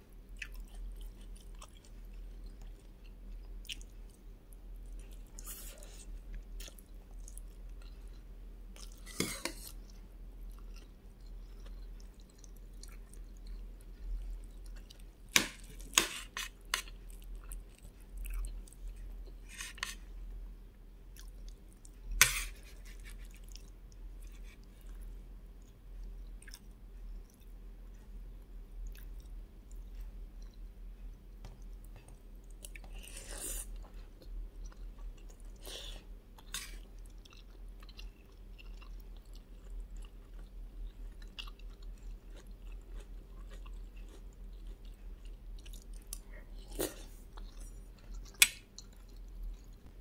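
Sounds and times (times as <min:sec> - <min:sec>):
chewing food: 0:00.3 - 0:20.1, 0:21.1 - 0:28.2, 0:28.8 - 0:50.0.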